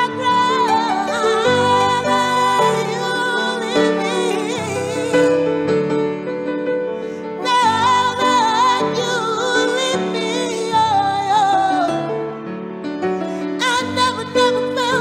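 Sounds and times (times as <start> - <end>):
woman singing: 0.0 - 5.8, 7.1 - 12.4, 13.3 - 15.0
piano chords: 0.0 - 15.0.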